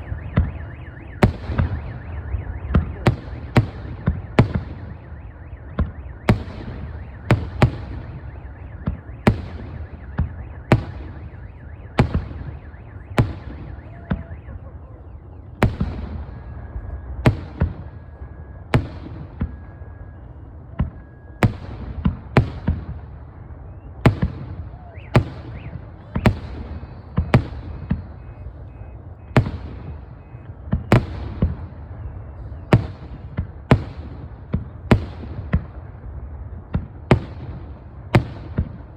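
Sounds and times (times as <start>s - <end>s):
continuous low rumble: 0.0s - 38.9s.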